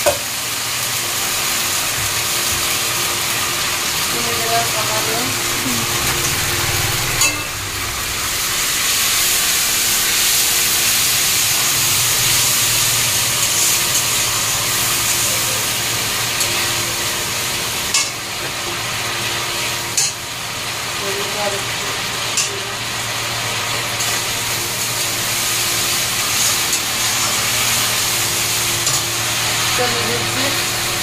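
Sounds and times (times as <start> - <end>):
spices sizzling in hot oil: 0.0 - 31.0.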